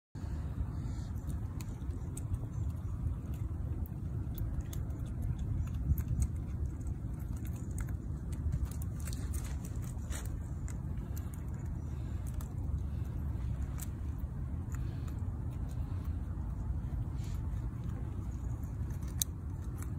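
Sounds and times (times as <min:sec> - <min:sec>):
low outdoor rumble: 0:00.2 - 0:19.9.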